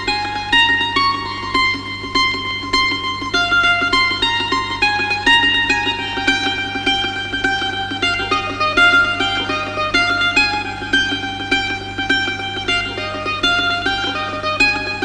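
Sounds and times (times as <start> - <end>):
plucked string melody: 0.0 - 15.0.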